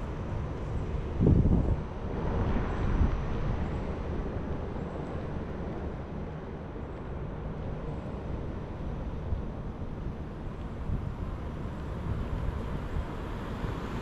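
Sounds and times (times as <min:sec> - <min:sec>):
wind on microphone: 0:00.0 - 0:06.1, 0:07.6 - 0:14.0
road traffic rumble: 0:00.0 - 0:14.0.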